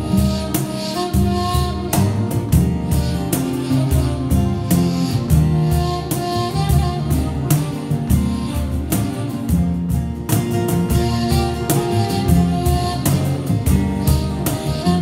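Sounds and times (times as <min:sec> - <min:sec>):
deep bass line: 0:00.0 - 0:15.0
held melodic line: 0:00.0 - 0:15.0.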